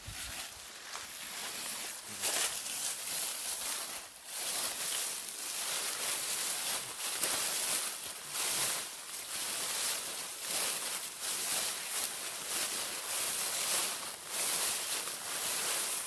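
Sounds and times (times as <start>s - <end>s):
footsteps in dry leaves: 0.0s - 16.0s.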